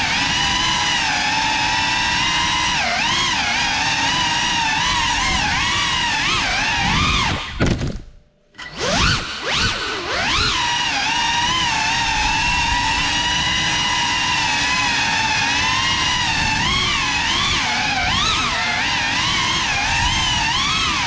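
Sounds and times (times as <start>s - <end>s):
drone motors whining: 0.0s - 8.0s, 8.6s - 21.0s.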